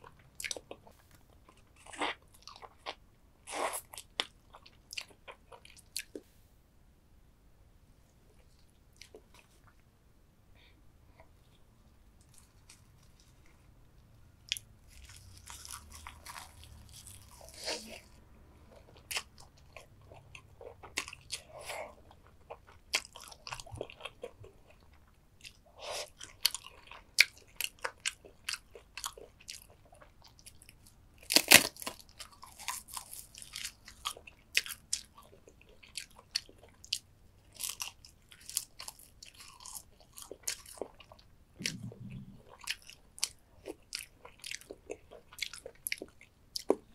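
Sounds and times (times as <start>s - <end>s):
chewing: 0.0s - 6.2s, 14.5s - 46.9s.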